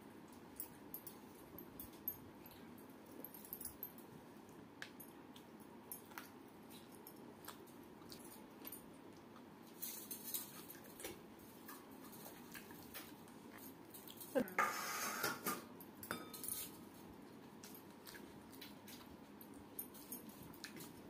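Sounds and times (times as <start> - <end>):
soft chewing: 0.1 - 14.6, 16.6 - 21.0
rustle and clatter: 0.3 - 21.0.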